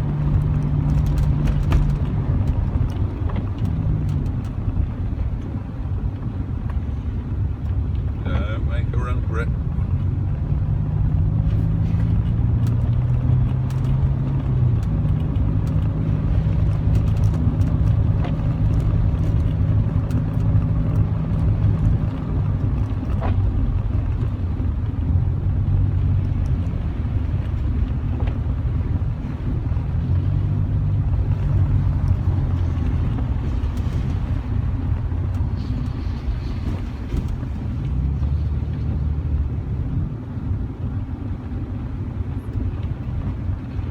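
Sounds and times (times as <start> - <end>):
car engine drone: 0.0 - 43.9.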